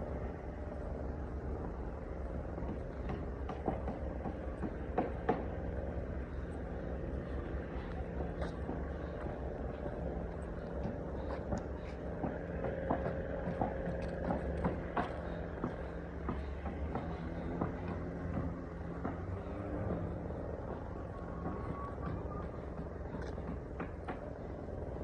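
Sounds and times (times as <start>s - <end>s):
low rumble of traffic: 0.0s - 25.0s.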